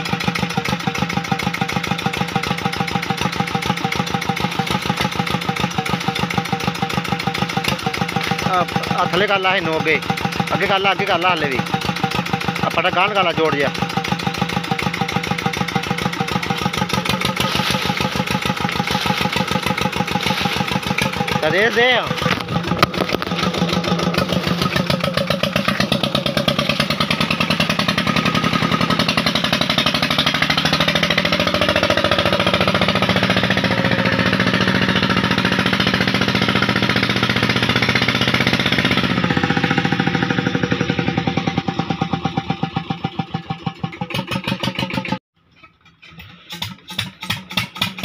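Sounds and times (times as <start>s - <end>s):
diesel engine chugging: 0.0s - 45.2s.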